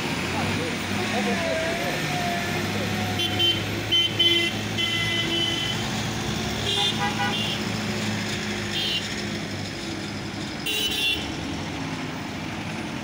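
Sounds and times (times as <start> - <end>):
truck engines driving past: 0.0 - 13.0.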